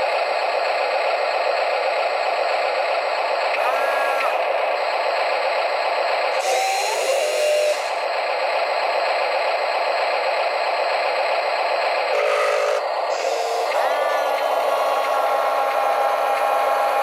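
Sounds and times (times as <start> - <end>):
electric motors and gears whining: 0.0 - 17.0.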